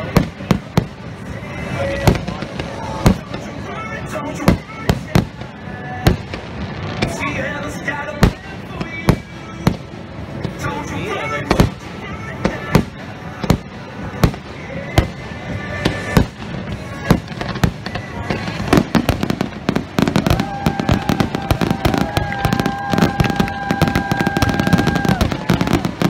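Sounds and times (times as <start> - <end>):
fireworks bangs and crackle: 0.0 - 26.0.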